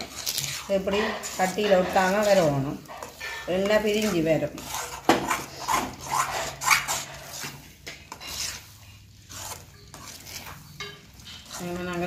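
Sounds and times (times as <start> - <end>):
metal spoon scraping a pan: 0.0 - 12.0.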